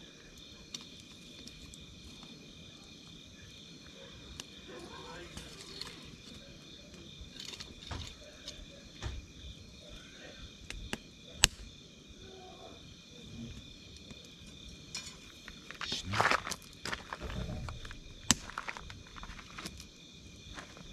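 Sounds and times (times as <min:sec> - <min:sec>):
campfire crackling and popping: 0:00.0 - 0:12.1, 0:13.5 - 0:20.9
insects trilling: 0:00.0 - 0:20.9.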